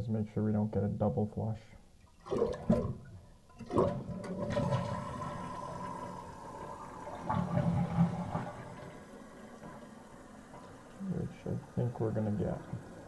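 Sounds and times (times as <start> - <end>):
toilet flushing: 2.2 - 13.0.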